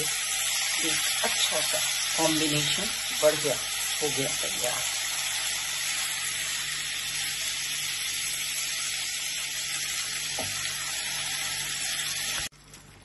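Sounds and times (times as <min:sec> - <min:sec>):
vegetables sizzling in a pan: 0:00.0 - 0:12.6.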